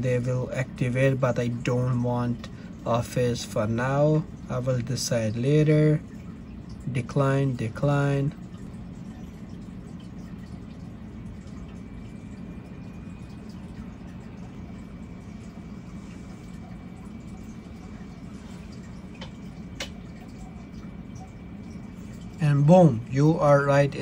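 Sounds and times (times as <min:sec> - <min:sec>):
faint high whine: 0:00.0 - 0:24.0
low background hum: 0:00.0 - 0:24.0.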